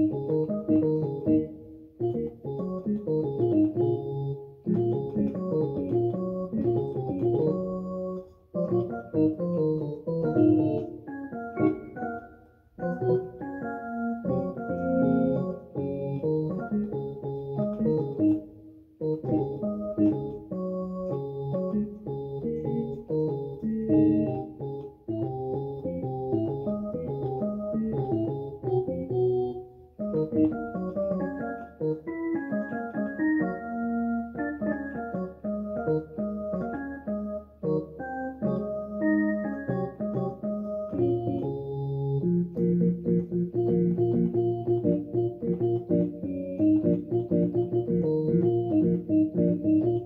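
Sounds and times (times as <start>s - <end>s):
electronic keyboard chords: 0.0s - 50.0s.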